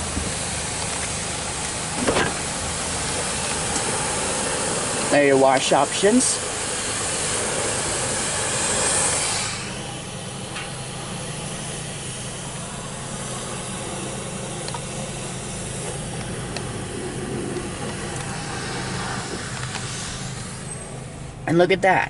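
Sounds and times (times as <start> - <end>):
pressure washer spray hissing: 0.0 - 21.6
low machine hum: 0.0 - 22.0.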